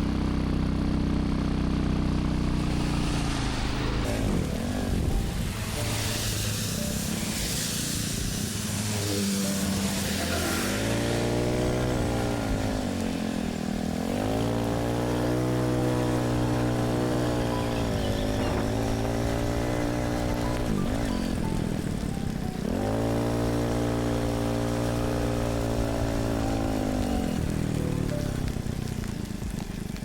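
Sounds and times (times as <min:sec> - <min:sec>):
small motorbike engine revving: 0:00.0 - 0:30.0
light hiss of rain: 0:02.4 - 0:30.0.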